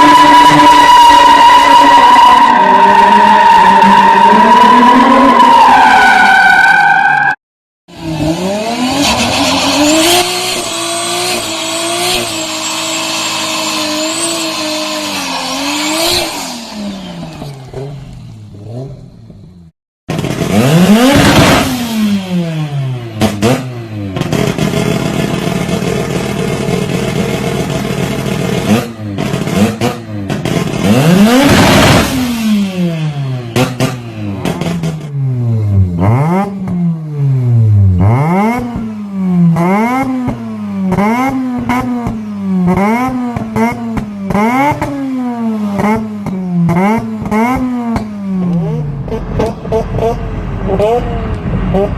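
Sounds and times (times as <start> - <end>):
rotary engine revving high: 0.0 - 19.3, 20.1 - 51.9.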